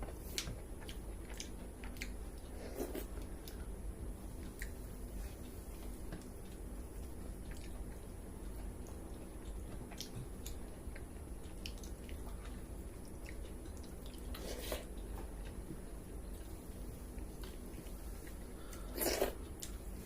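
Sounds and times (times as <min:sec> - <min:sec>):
wet chewing and mouth sounds: 0:00.0 - 0:20.0.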